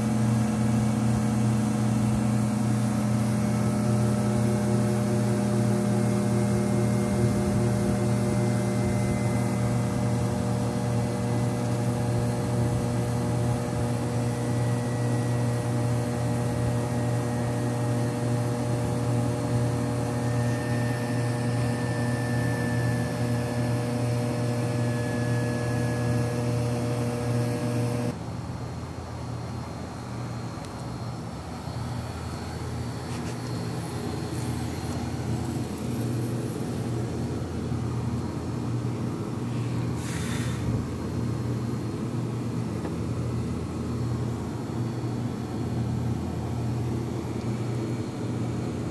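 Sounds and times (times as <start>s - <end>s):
centrifuge machine hum: 0.0s - 28.2s, 29.5s - 48.9s
faint high whine: 0.0s - 48.9s.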